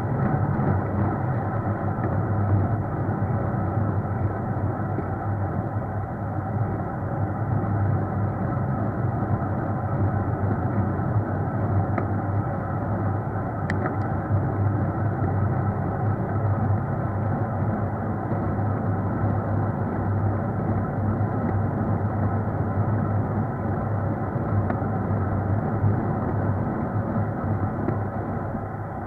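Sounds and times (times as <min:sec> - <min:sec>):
road and wind rumble: 0:00.0 - 0:29.0.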